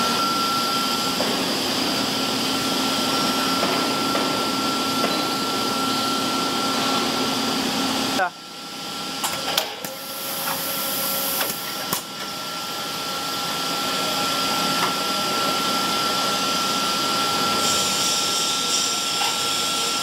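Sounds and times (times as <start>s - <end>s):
machinery whirring with high whine: 0.0s - 20.0s.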